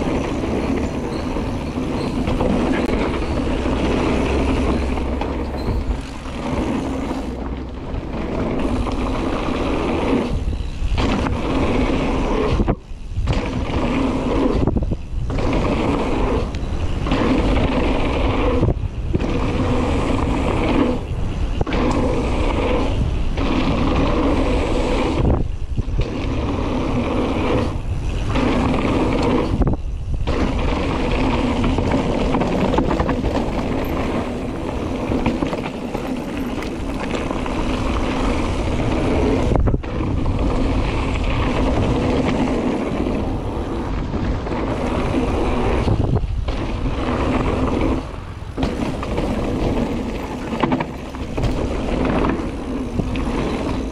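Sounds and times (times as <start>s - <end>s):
bike parts rattling: 0.0s - 26.2s, 27.6s - 53.9s
tyres rumbling on dirt: 0.0s - 53.9s
wind on microphone: 0.0s - 53.9s.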